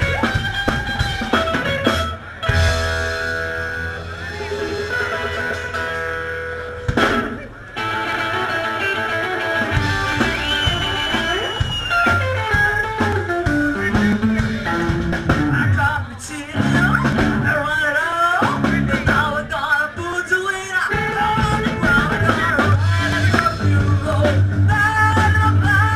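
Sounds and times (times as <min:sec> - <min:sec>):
upright bass: 0:00.0 - 0:17.8, 0:18.4 - 0:19.8, 0:20.9 - 0:25.9
drums: 0:00.0 - 0:25.9
guitar: 0:00.0 - 0:25.9.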